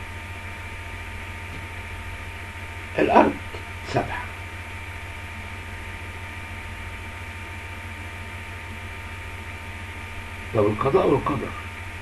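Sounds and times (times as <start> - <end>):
constant hiss: 0.0 - 12.0
electrical hum: 0.0 - 12.0.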